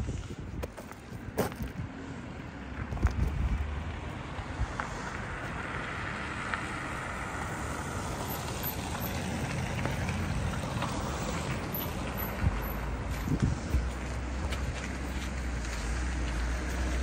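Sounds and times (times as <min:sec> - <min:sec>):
street traffic hiss: 0:00.0 - 0:17.0.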